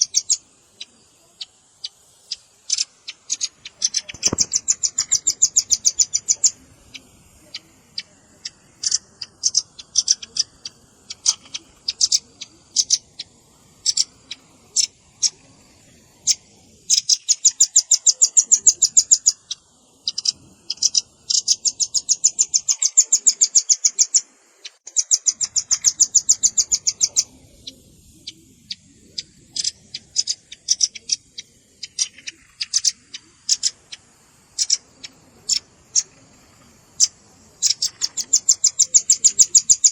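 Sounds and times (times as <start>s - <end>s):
nuthatch calls: 0.0s - 39.9s.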